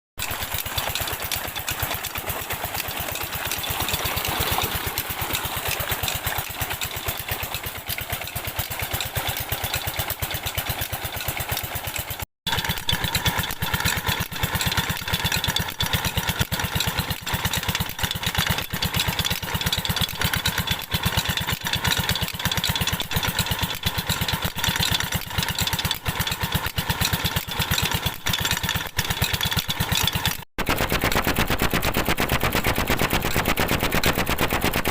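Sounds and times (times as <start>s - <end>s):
diesel pump engine running: 0.2s - 34.9s.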